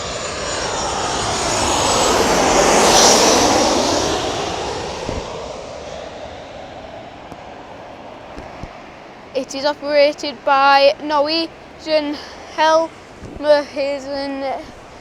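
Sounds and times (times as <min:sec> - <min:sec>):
airliner passing low overhead: 0:00.0 - 0:15.0
jet engine high whine: 0:00.0 - 0:15.0.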